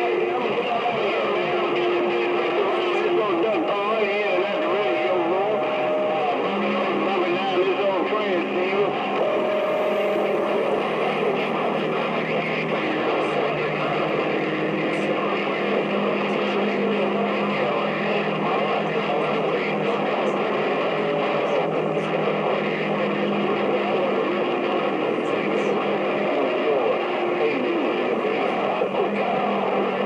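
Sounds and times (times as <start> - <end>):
radio static hissing: 0.0 - 30.0.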